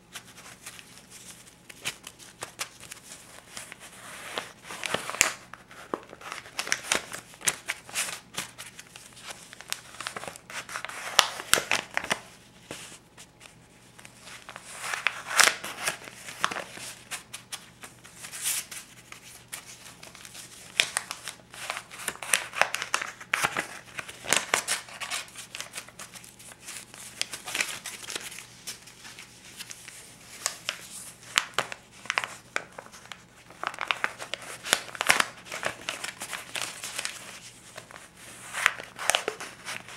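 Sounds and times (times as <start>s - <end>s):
banknotes crinkling and snapping: 0.1s - 39.9s.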